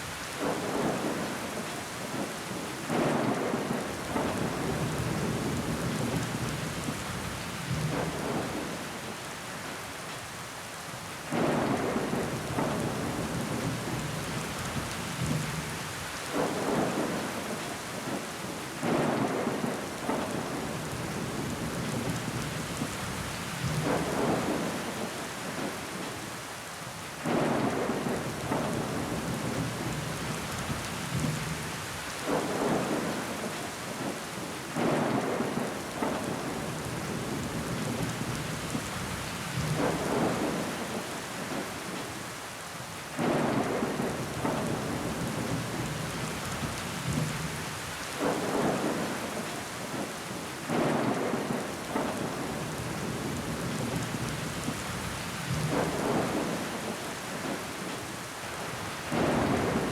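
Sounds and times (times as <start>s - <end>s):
rain against a window: 0.0s - 59.9s.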